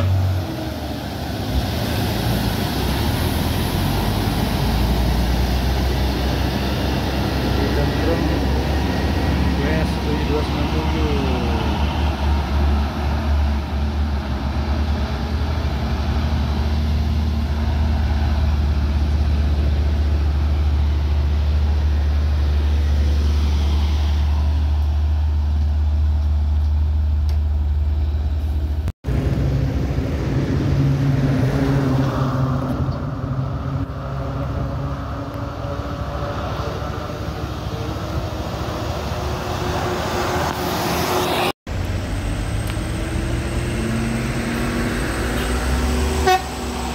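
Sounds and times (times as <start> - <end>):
highway traffic drone: 0.0 - 46.9.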